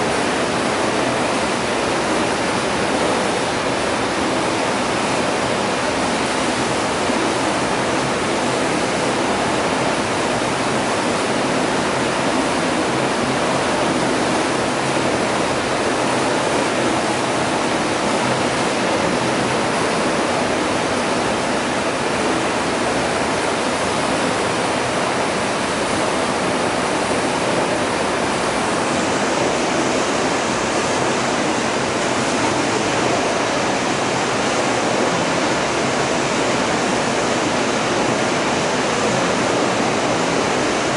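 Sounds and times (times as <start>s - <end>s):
flowing and falling water: 0.0s - 40.9s.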